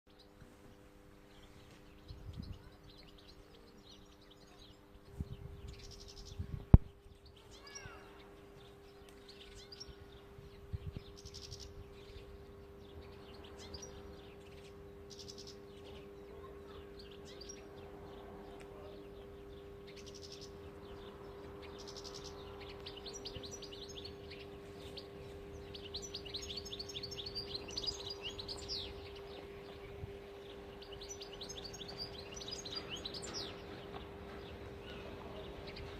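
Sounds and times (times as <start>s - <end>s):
finch chirping and twittering: 0.1s - 35.9s.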